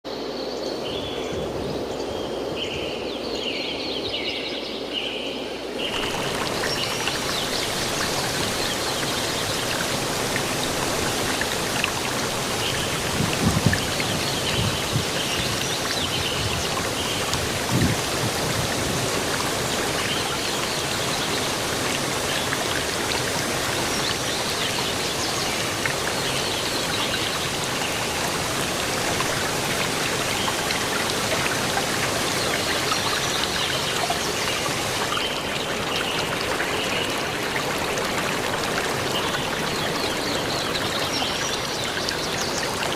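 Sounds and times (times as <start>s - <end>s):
waterfall rushing: 5.6s - 42.9s.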